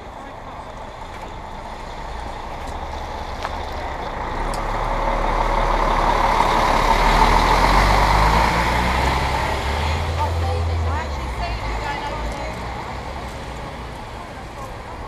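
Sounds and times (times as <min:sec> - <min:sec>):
coach pulling away: 0:00.0 - 0:15.0.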